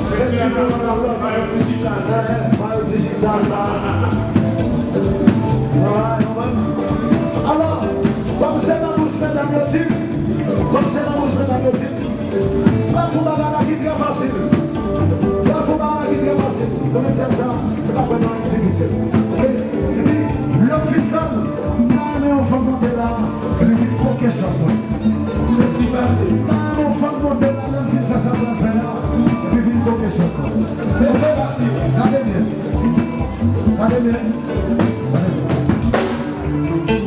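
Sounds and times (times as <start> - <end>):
man singing lead vocal: 0.0 - 4.7, 5.6 - 14.7, 15.4 - 35.6
live dance band playing: 0.0 - 37.0.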